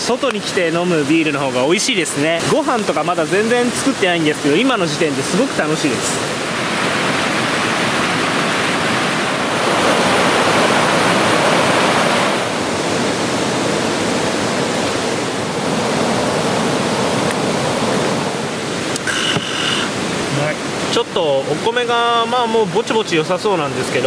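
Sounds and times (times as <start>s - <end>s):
river rushing over rapids: 0.0s - 24.0s.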